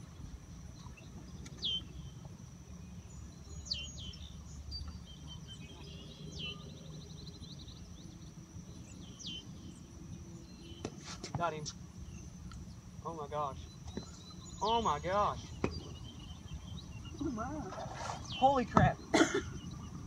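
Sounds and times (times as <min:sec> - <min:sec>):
bird chirping: 0:00.0 - 0:20.0
faint high hum: 0:00.0 - 0:20.0
bird trill: 0:02.8 - 0:20.0.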